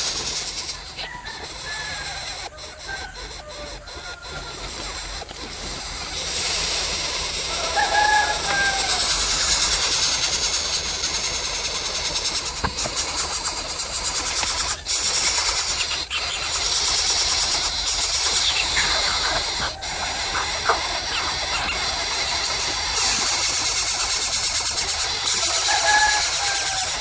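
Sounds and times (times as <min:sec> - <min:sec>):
insects buzzing: 0:00.0 - 0:27.0.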